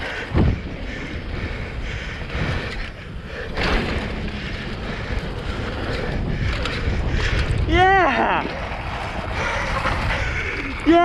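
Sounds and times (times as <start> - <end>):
bike tyres rumbling on dirt: 0.0 - 11.0
wind on microphone: 0.0 - 11.0.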